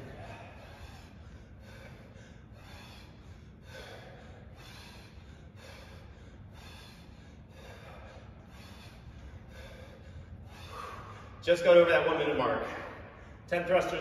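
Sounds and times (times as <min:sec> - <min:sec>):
man breathing hard: 0:00.0 - 0:13.5.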